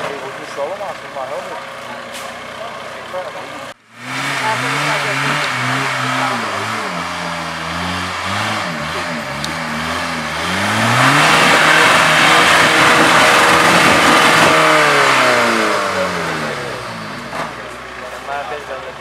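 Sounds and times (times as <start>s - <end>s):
engine revving under load: 0.0s - 19.0s.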